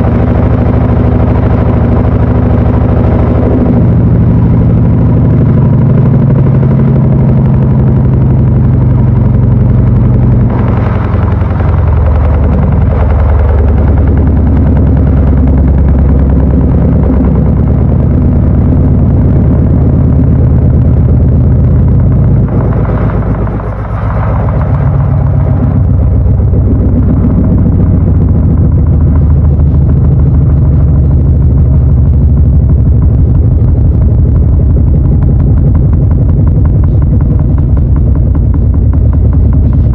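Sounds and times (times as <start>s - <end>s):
washing machine motor humming: 0.0s - 39.9s.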